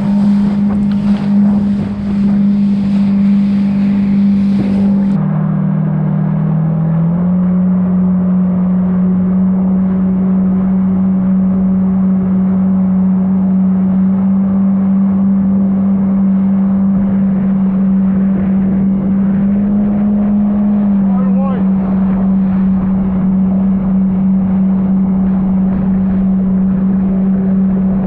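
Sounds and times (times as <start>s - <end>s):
water spraying off hull: 0.0s - 5.2s, 9.2s - 28.0s
jet ski engine drone: 0.0s - 28.0s.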